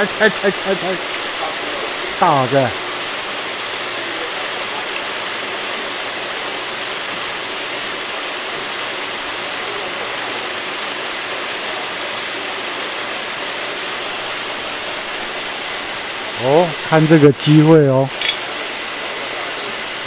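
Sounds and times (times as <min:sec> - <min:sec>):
running splashing water: 0:00.0 - 0:20.0.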